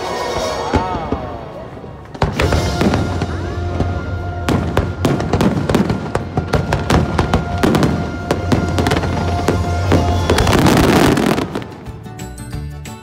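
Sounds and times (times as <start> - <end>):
fireworks bursting: 0.2 - 12.0.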